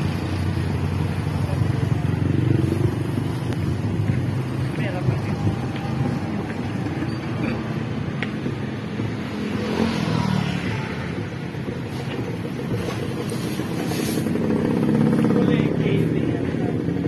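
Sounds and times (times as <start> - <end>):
cars driving past: 0.0 - 17.0
motorcycle engines: 0.0 - 17.0.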